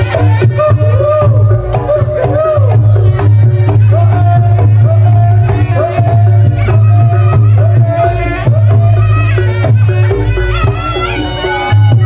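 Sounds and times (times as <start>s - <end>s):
hand drums beating: 0.0s - 12.0s
reedy wind instrument melody: 0.0s - 12.0s.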